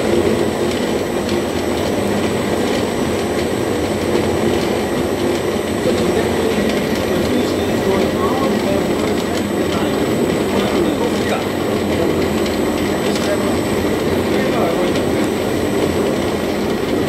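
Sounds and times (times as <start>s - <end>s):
food processor running: 0.0s - 17.0s.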